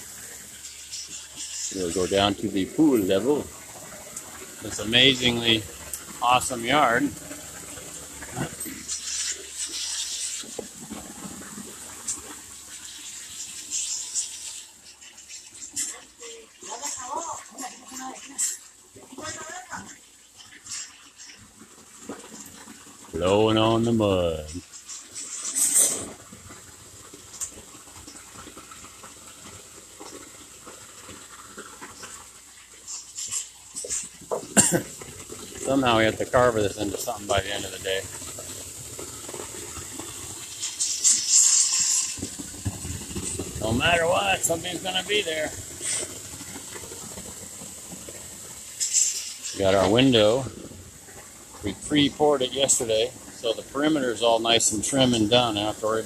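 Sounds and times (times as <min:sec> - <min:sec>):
hose spraying with hissing gush: 0:00.0 - 0:56.0.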